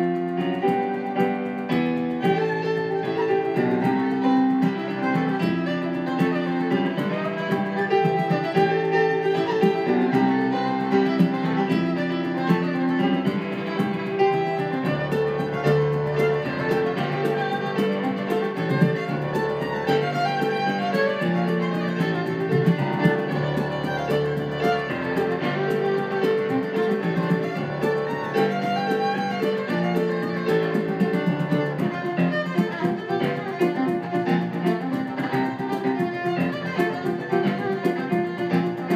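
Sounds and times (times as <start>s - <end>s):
fiddle bowing a melody: 0.0s - 38.9s
piano accompaniment: 0.0s - 38.9s.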